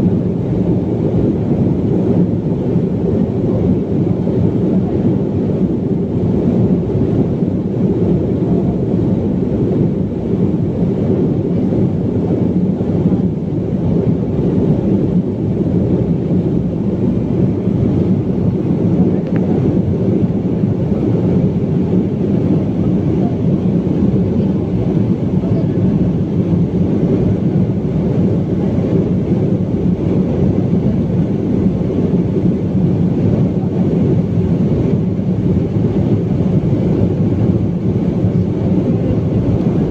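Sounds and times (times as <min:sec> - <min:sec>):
jet airliner engines rumbling: 0:00.0 - 0:39.9.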